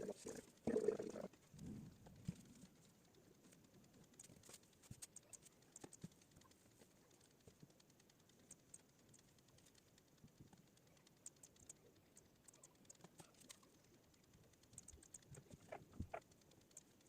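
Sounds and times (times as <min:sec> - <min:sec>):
faint computer clicking: 0:00.0 - 0:17.0.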